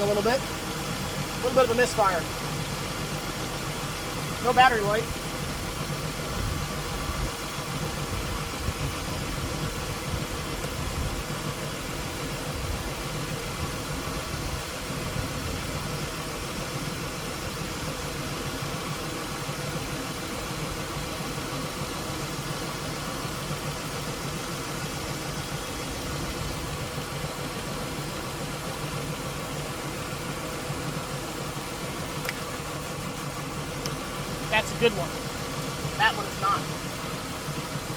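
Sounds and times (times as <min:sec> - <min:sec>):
car engine idling with misfire: 0:00.0 - 0:37.9.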